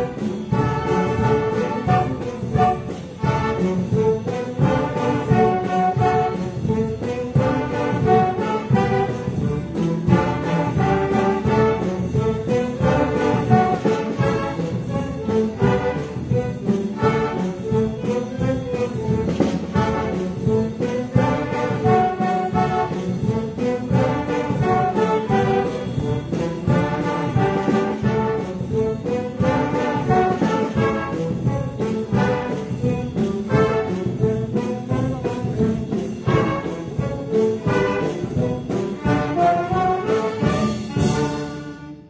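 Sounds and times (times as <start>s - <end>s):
orchestra strings and brass playing: 0.0s - 42.0s.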